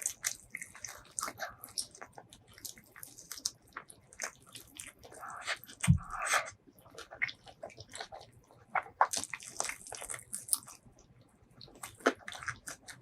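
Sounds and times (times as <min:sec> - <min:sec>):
wet chewing and mouth smacks: 0:00.0 - 0:13.0.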